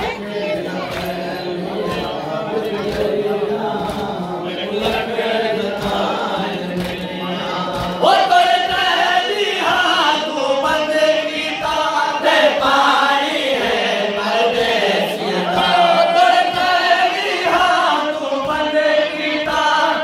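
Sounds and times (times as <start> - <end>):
men chanting in unison: 0.0 - 20.0.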